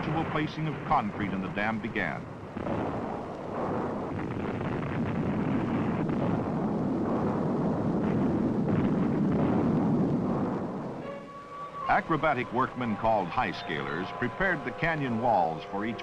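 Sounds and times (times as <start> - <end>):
dynamite blast rumbling roar: 0.0 - 16.0.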